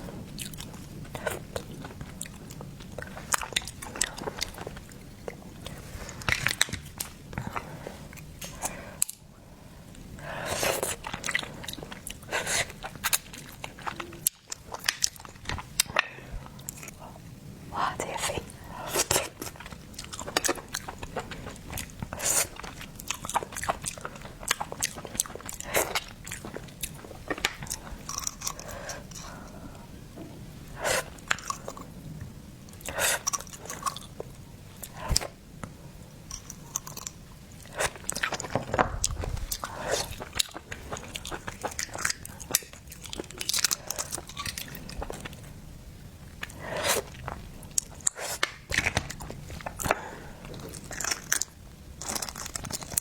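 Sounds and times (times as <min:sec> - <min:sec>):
person chewing wetly: 0:00.1 - 0:09.3, 0:09.9 - 0:17.2, 0:18.1 - 0:29.9, 0:30.6 - 0:45.5.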